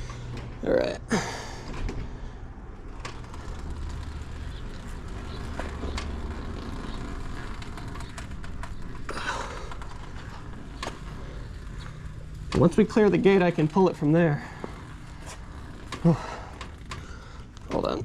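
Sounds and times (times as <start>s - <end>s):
car tyres rolling over pavement: 2.1s - 18.0s.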